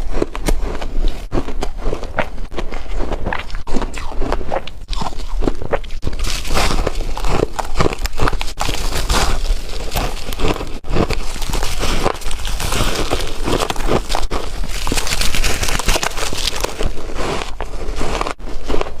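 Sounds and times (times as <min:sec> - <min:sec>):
crunching ice: 0:00.0 - 0:19.0.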